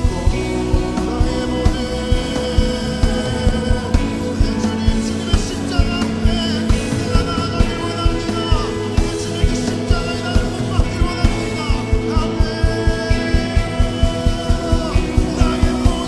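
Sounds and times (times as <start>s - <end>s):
person singing: 0.0s - 16.0s
steady drum beat: 0.0s - 16.0s
sustained chords: 0.0s - 16.0s.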